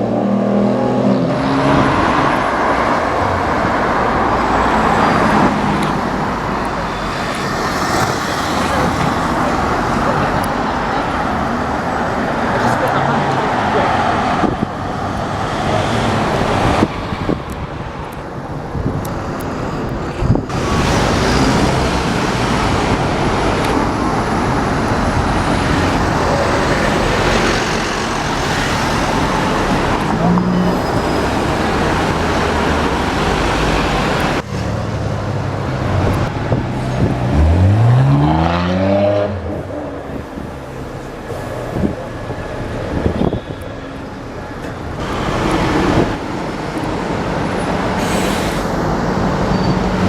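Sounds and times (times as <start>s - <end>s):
city street traffic: 0.0s - 50.0s.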